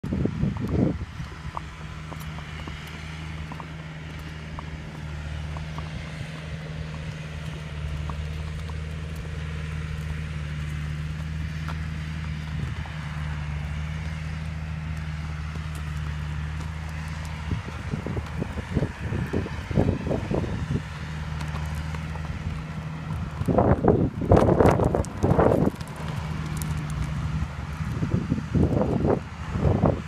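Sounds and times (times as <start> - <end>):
horse hooves walking on road: 0.0 - 30.0
motor engine hum: 0.0 - 30.0.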